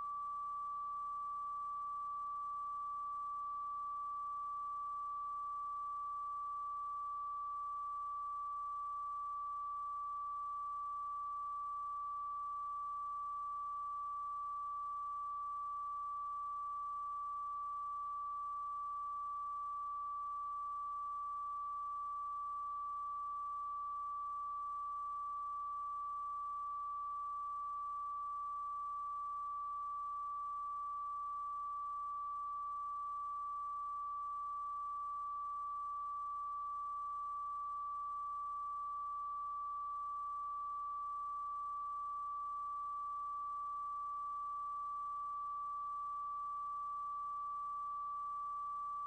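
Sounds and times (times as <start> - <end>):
electronic sine tone: 0.0 - 49.0.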